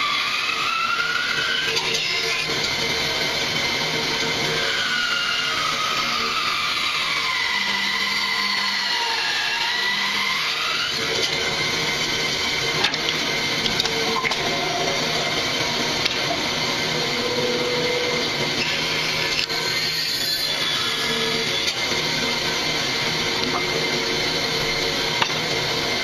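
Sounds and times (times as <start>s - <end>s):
bandsaw cutting wood: 0.0s - 26.0s.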